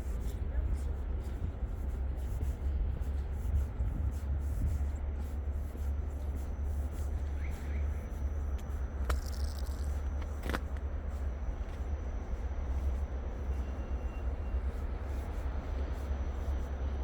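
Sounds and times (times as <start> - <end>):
city street rumble: 0.0 - 17.0.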